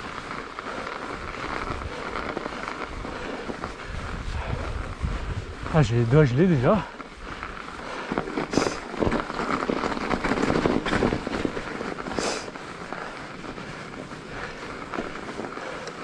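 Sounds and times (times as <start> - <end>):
bike tyres crunching on snow: 0.0 - 16.0.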